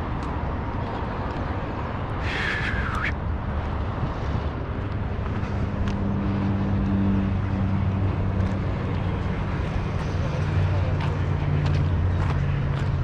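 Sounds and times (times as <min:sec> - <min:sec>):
passing motor vehicle rumble: 0:00.0 - 0:13.0.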